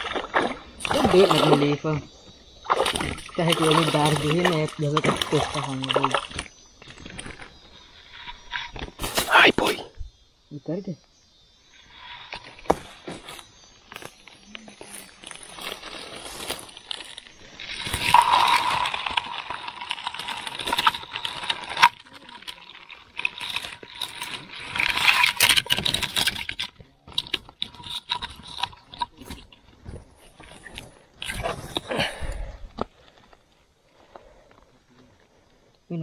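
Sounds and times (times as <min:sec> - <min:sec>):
dry grass and twigs rustling: 0:02.5 - 0:09.3, 0:11.3 - 0:35.8.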